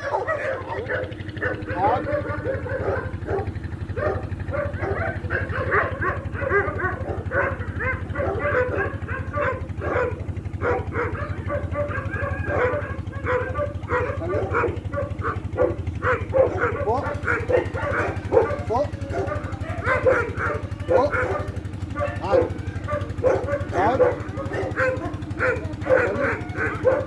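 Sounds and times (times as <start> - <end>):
dogs barking and yipping: 0.0 - 27.0.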